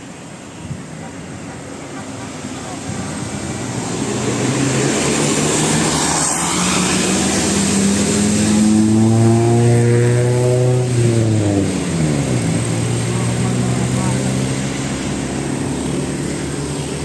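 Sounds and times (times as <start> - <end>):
bus engine passing: 0.0 - 17.0
tyre and road noise: 0.0 - 17.0.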